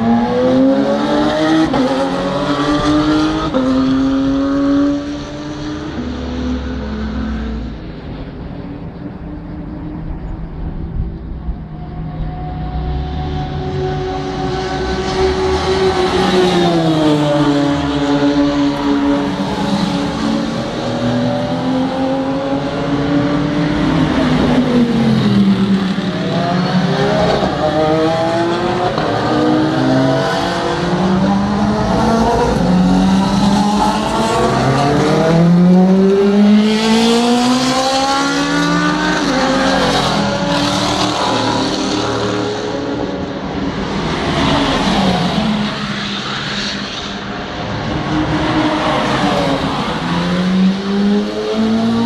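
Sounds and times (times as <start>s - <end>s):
race car engines at full throttle: 0.0s - 52.0s.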